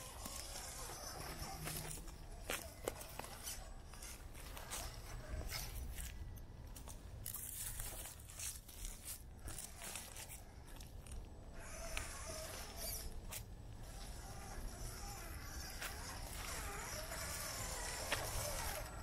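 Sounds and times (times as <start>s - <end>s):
crunching on dry ground: 0.0s - 19.0s.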